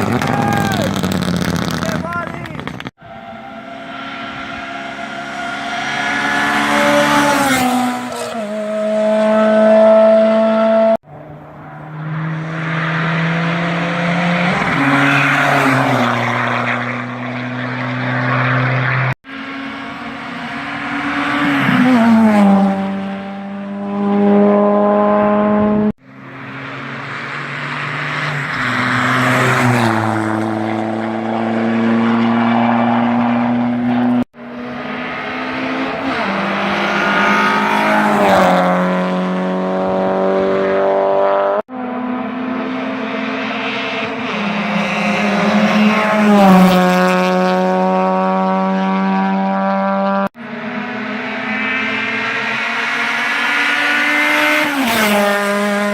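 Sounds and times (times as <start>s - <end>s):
race cars passing at full throttle: 0.0s - 55.9s.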